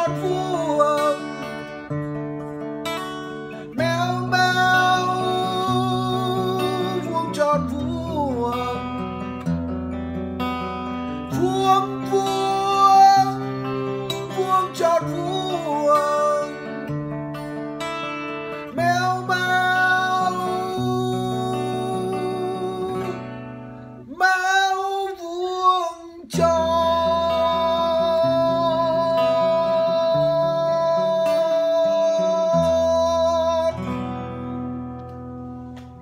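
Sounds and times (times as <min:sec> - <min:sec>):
man singing: 0:00.0 - 0:01.9, 0:03.3 - 0:09.4, 0:10.9 - 0:17.1, 0:18.5 - 0:34.6
acoustic guitar chords: 0:00.0 - 0:36.0.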